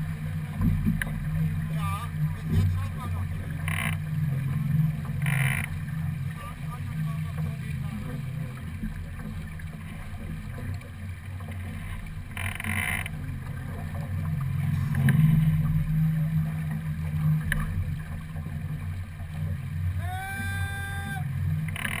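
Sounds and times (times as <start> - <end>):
water rumbling along hull: 0.0 - 22.0.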